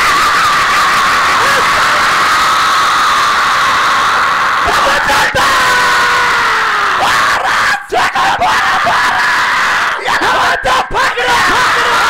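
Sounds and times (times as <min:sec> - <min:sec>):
crowd shouting and screaming: 0:00.0 - 0:12.0.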